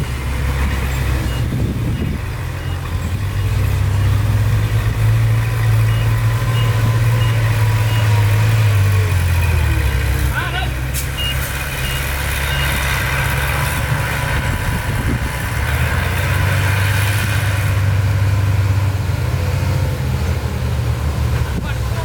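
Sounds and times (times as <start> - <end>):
construction vehicle engine drone: 0.0 - 22.0.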